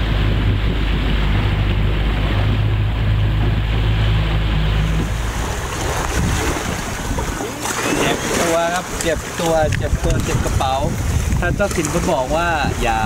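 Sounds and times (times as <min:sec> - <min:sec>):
outboard motor hum: 0:00.0 - 0:13.0
rushing water: 0:00.0 - 0:13.0
wind on microphone: 0:00.0 - 0:13.0.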